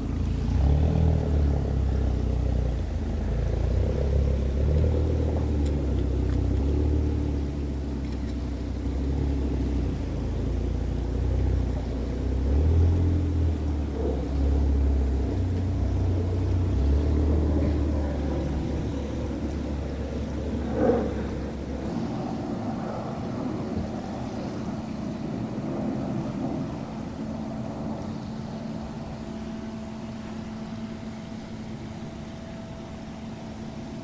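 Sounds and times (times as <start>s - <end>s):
machinery hum: 0.0s - 34.0s
ship engines rumbling: 0.0s - 34.0s.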